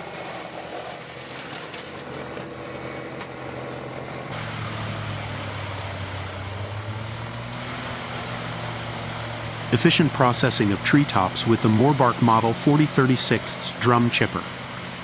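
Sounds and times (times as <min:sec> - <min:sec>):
wood chipper engine humming: 0:00.0 - 0:15.0.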